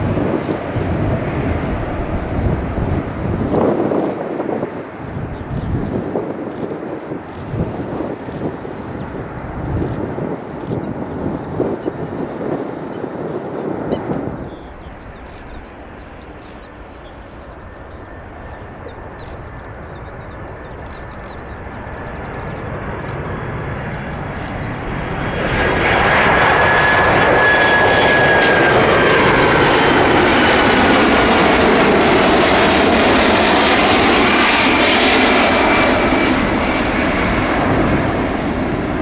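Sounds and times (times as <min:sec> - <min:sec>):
jet engine noise: 0:00.0 - 0:39.0.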